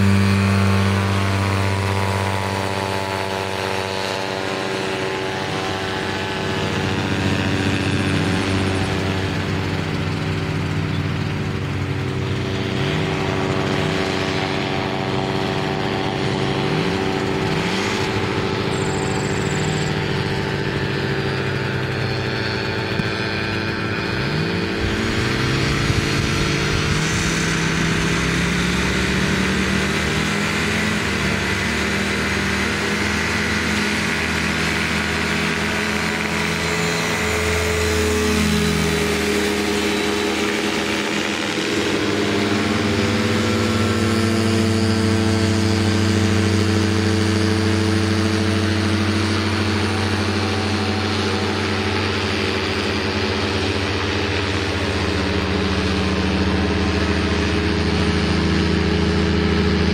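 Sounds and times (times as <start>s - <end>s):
engine and propeller running: 0.0s - 59.9s.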